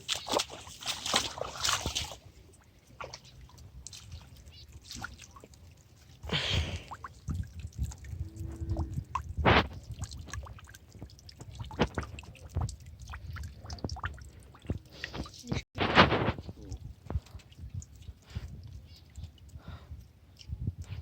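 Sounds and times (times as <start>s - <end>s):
water splashing and dripping: 0.0s - 21.0s.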